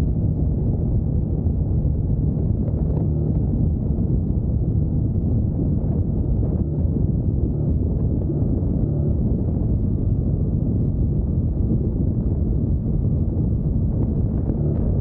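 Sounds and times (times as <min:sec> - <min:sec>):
motorcycle engine drone: 0:00.0 - 0:15.0
wind buffeting microphone: 0:00.0 - 0:15.0.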